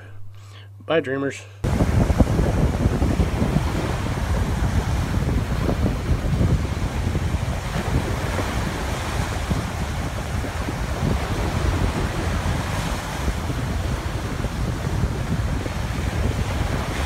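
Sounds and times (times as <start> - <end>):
small waves breaking on shore: 1.6 - 17.0
wind buffeting microphone: 1.6 - 17.0.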